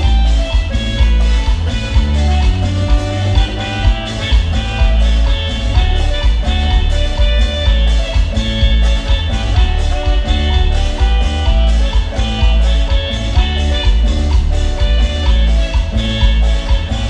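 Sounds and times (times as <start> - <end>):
congas: 0.0 - 17.0
electric bass: 0.0 - 17.0
electric keyboard melody: 0.0 - 17.0
live band instrumental: 0.0 - 17.0.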